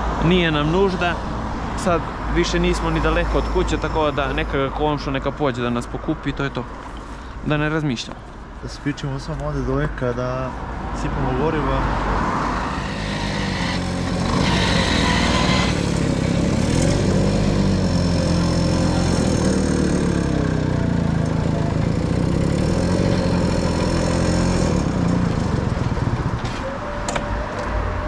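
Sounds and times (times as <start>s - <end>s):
moped engines: 0.0s - 28.0s.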